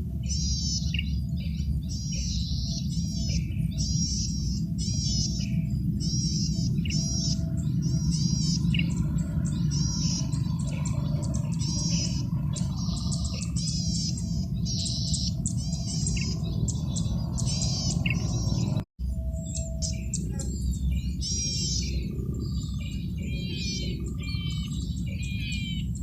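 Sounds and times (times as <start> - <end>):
bird singing buzzy phrases: 0.0 - 26.0
steady low hum: 0.0 - 26.0.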